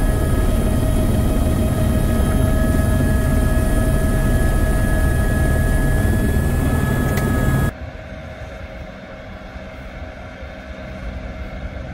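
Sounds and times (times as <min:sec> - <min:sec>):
helicopter turbine and rotor: 0:00.0 - 0:11.9
high turbine whine: 0:00.0 - 0:11.9.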